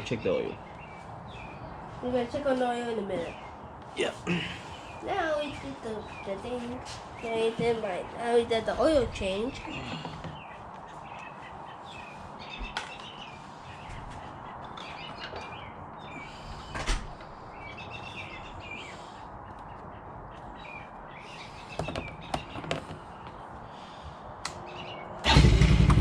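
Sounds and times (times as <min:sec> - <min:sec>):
small birds chirping: 0:00.0 - 0:25.2.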